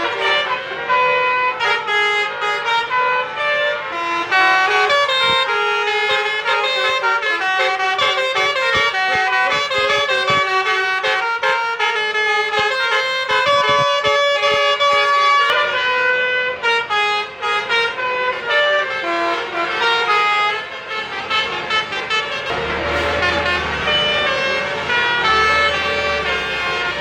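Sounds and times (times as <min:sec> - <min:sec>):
musical air horn melody: 0:00.0 - 0:27.0.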